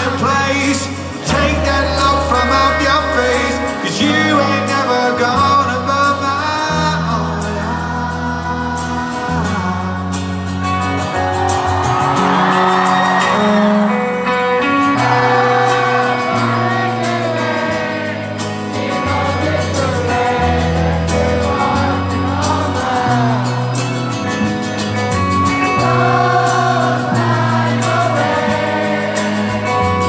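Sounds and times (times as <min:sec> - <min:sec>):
crowd singing along: 0:00.0 - 0:30.0
live rock band playing: 0:00.0 - 0:30.0.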